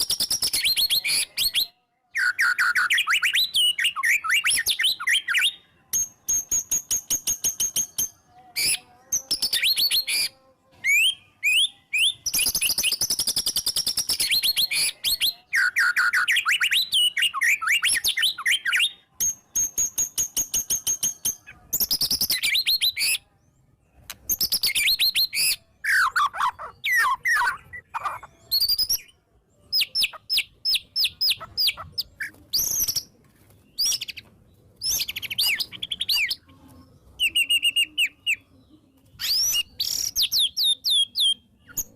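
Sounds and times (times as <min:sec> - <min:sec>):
bird singing trills and whistles: 0:00.0 - 0:23.4, 0:24.0 - 0:36.5, 0:37.1 - 0:41.9.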